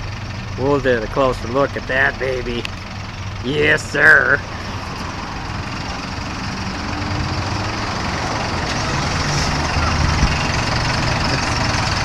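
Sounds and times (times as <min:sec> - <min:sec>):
heavy truck engine idling: 0:00.0 - 0:12.0.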